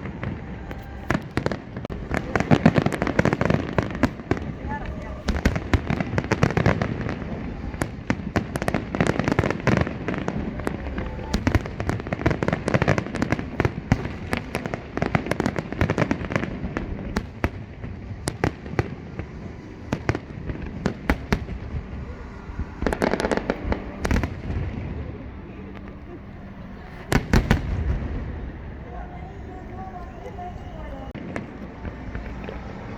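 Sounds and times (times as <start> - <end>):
fireworks cracks and bangs: 0.0 - 28.8, 31.1 - 32.9.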